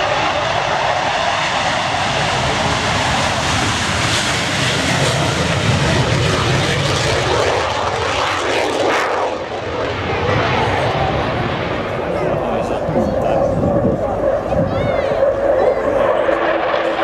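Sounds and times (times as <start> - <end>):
jet roaring on takeoff: 0.0 - 17.0.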